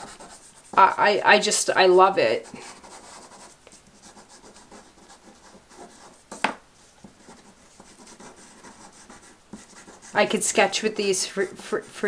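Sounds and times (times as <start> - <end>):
pastel scratching on paper: 0.0 - 12.0.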